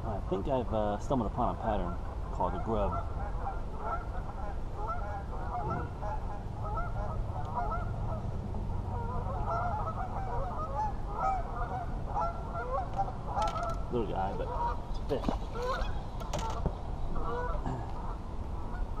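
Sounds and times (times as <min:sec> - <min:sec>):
geese honking: 0:01.8 - 0:19.0.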